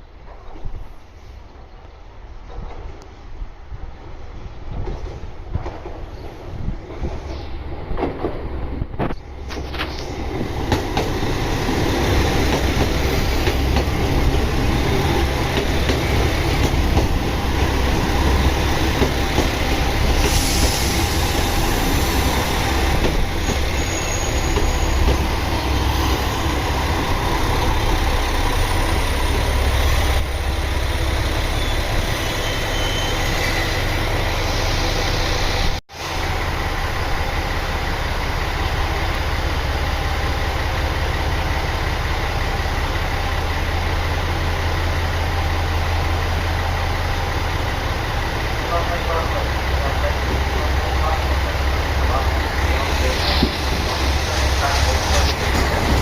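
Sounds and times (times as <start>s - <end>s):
diesel train engine rumble: 0.0s - 56.0s
train wheels on track: 0.0s - 56.0s.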